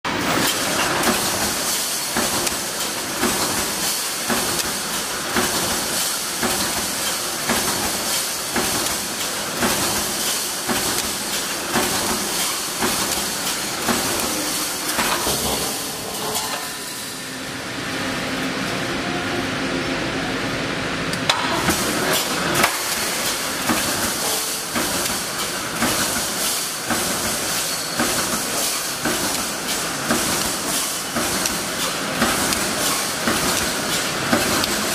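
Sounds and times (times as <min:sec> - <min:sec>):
welding machine clatter and hiss: 0:00.1 - 0:17.3, 0:21.1 - 0:34.9.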